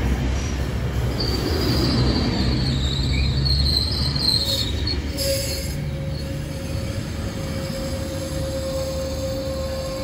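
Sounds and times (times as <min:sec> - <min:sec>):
train rumble: 0:00.0 - 0:10.0
train wheels squealing: 0:00.2 - 0:10.0.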